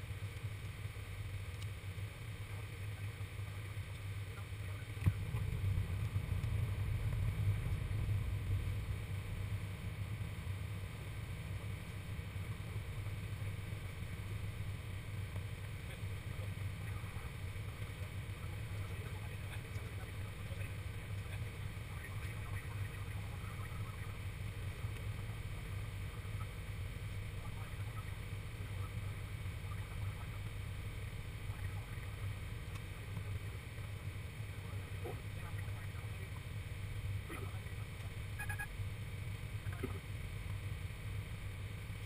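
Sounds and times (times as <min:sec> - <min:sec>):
constant low hum: 0:00.0 - 0:42.0
engine and airflow drone: 0:00.0 - 0:42.0.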